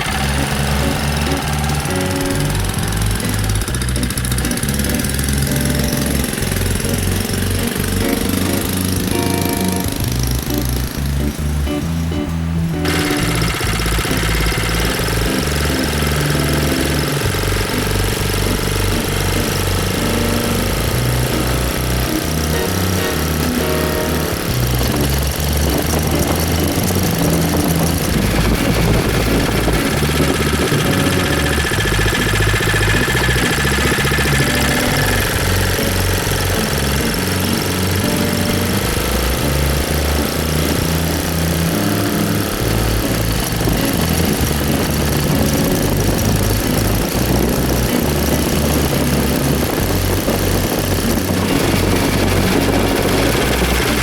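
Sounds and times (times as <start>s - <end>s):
music with bass beat: 0.0s - 54.0s
small motorbike engine revving: 0.0s - 54.0s.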